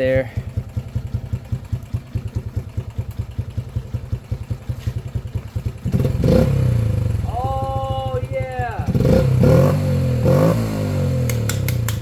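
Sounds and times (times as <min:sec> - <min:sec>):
engine idling and revving: 0:00.0 - 0:12.0.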